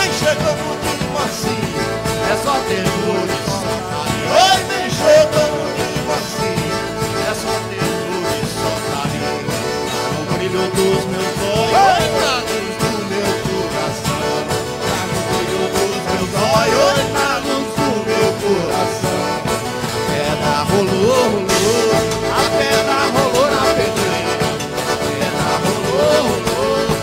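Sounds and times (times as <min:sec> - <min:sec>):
accordion: 0:00.0 - 0:27.0
bass: 0:00.0 - 0:27.0
percussion: 0:00.0 - 0:27.0
plucked guitars: 0:00.0 - 0:27.0.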